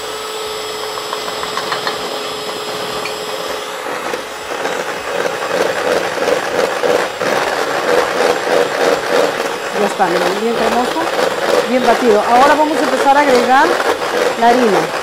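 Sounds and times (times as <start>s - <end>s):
electric hand mixer whipping batter: 0.0s - 15.0s.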